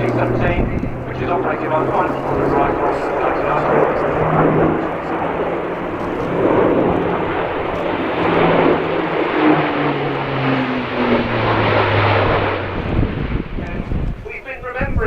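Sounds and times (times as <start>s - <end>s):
turboprop aircraft passing: 0.0s - 15.0s.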